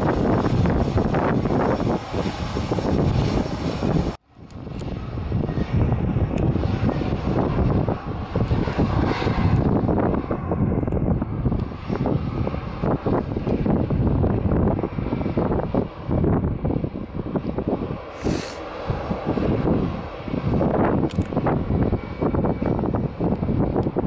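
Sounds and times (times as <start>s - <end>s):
aircraft engine running: 0.0s - 24.0s
wind buffeting microphone: 0.0s - 24.0s.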